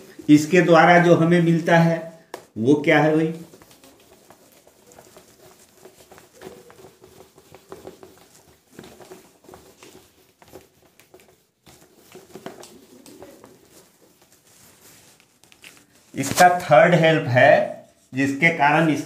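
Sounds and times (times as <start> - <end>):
duster scrubbing whiteboard: 0.0 - 17.1.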